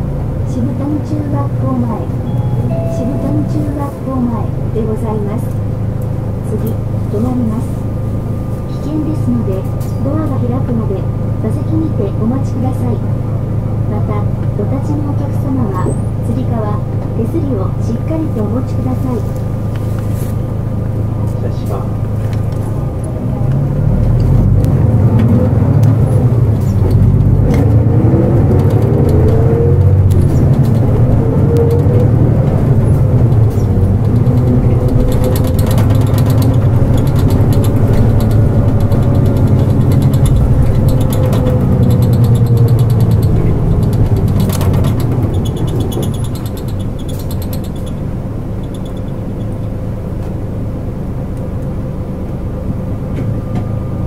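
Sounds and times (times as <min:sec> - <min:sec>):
bus diesel engine pulling away: 0:00.0 - 0:09.2, 0:18.4 - 0:54.0.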